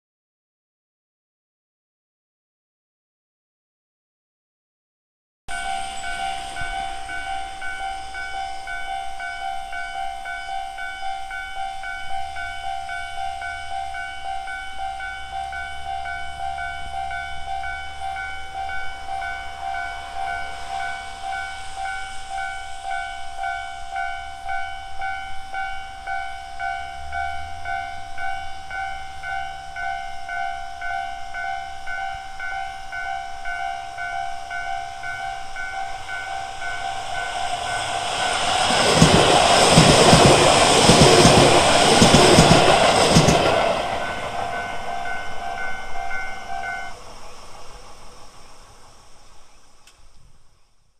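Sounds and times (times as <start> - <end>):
level crossing warning bell: 5.5 - 47.5
train arriving: 5.5 - 50.9.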